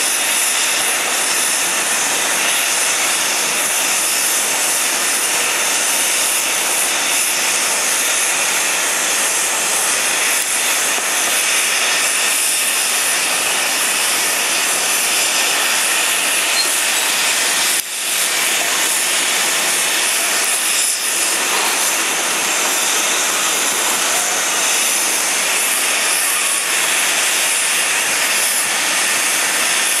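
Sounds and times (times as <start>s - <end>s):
jet turbine hiss: 0.0s - 30.0s.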